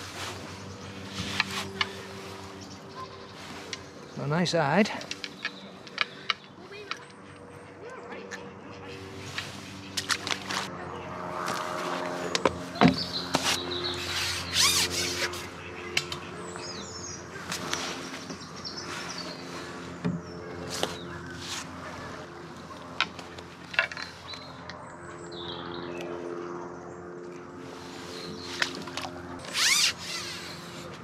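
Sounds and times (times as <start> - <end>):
small birds chirping: 0.0 - 10.5, 12.4 - 30.9
steady low hum: 0.0 - 31.0.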